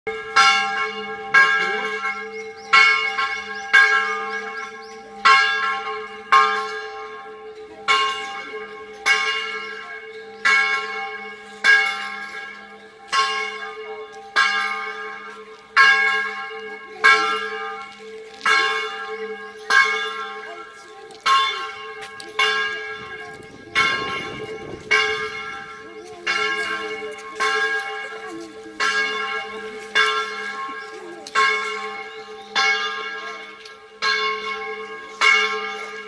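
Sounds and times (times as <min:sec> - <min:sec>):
church bell tolling: 0:00.1 - 0:36.0.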